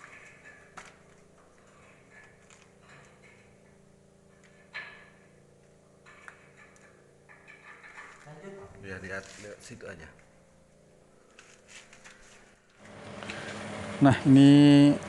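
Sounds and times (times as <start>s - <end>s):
faint machinery hum: 0.0s - 15.0s.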